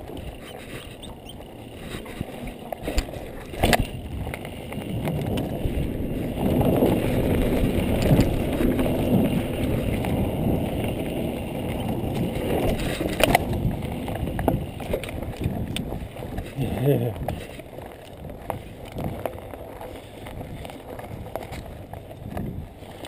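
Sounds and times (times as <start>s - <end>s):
bike tyres rumbling on dirt: 0.0s - 23.0s.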